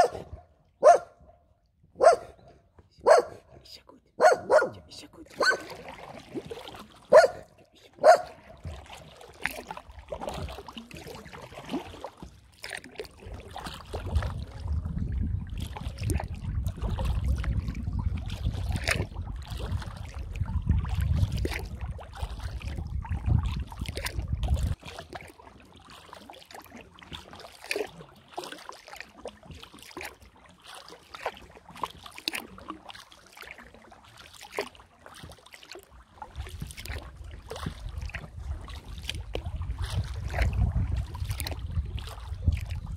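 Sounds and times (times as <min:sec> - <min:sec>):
paddle splashing water: 0:00.0 - 0:42.9.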